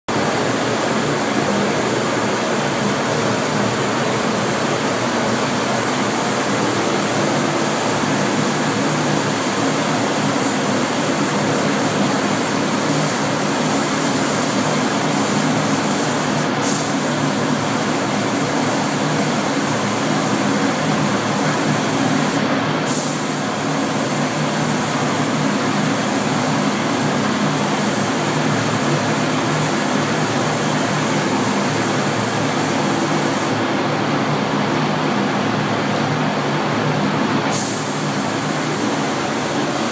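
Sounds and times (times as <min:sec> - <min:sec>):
spray gun air hissing: 0:00.1 - 0:33.6, 0:37.5 - 0:39.9.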